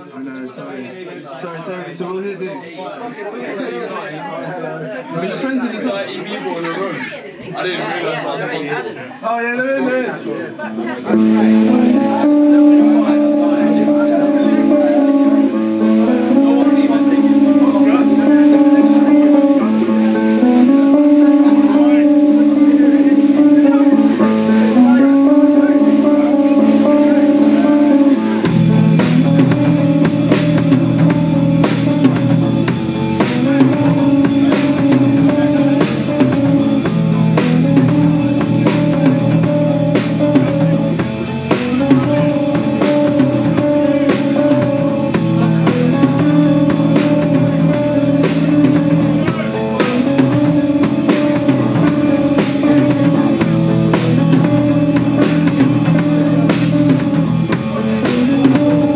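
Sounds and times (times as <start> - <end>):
electric guitar: 10.5 - 58.9
bass guitar: 10.7 - 58.9
drum kit: 11.1 - 58.9.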